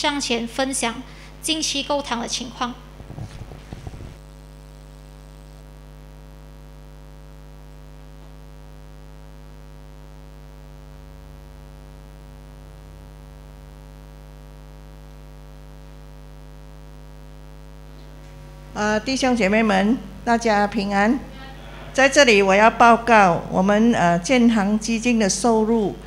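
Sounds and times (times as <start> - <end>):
buzzy mains hum: 0.0 - 26.0.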